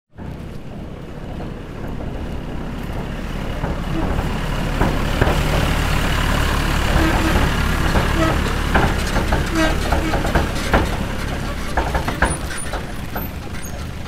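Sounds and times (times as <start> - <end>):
heavy machine engine rumble: 0.1 - 14.0
sharp knocks: 0.2 - 14.0.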